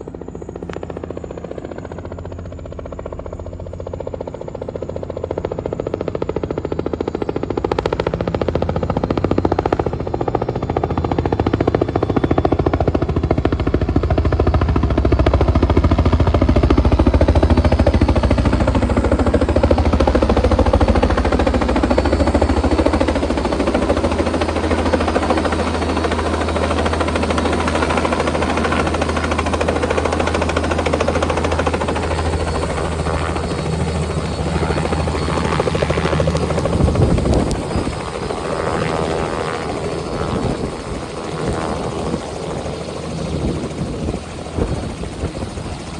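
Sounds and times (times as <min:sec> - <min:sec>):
helicopter rotor blades chopping: 0:00.0 - 0:45.9.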